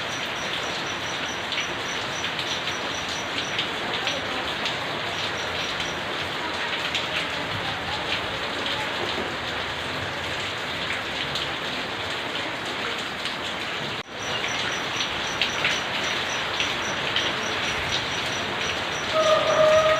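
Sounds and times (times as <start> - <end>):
raindrop taps: 0.0 - 12.2, 13.0 - 19.3
steady rain hiss: 0.0 - 19.9.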